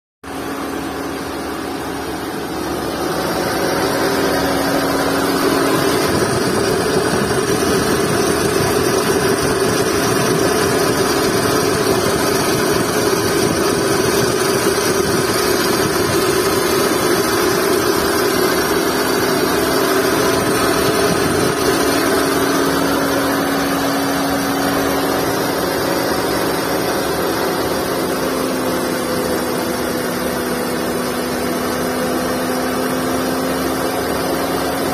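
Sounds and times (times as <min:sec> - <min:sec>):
car engine idling: 0:00.2 - 0:34.9
drive belt whine: 0:00.2 - 0:34.9.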